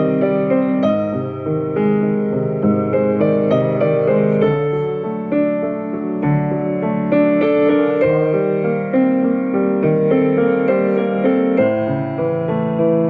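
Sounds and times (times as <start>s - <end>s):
slow piano chords and melody: 0.0s - 13.0s.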